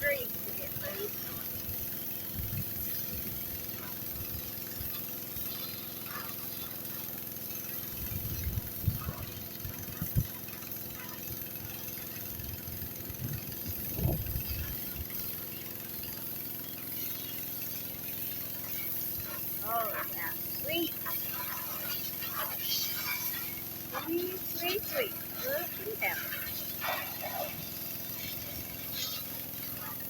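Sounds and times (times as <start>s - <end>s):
pressure washer engine running: 0.0s - 30.0s.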